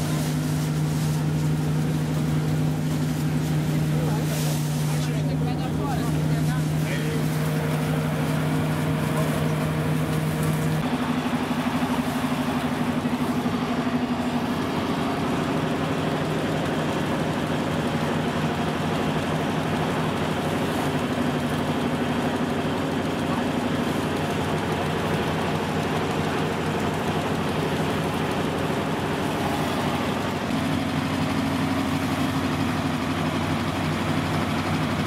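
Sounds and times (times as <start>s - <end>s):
threshing machine running: 0.0s - 35.0s.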